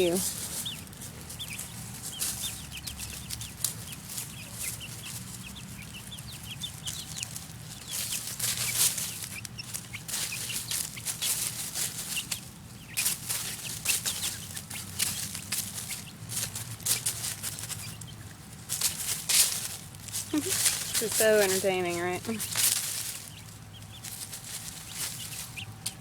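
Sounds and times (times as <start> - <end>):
chicks peeping: 0.0 - 26.0
dry leaves rustling: 0.0 - 26.0.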